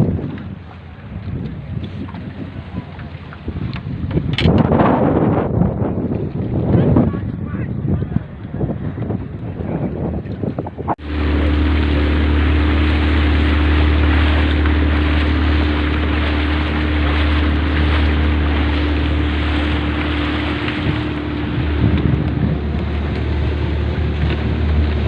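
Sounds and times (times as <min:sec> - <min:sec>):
boat motor running: 0:00.0 - 0:25.0
wind and water rushing: 0:00.0 - 0:25.0.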